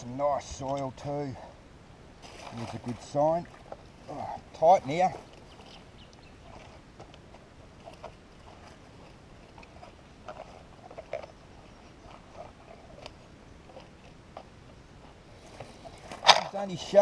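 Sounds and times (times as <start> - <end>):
coil brushing dirt clicks: 0.0 - 1.4, 2.2 - 17.0.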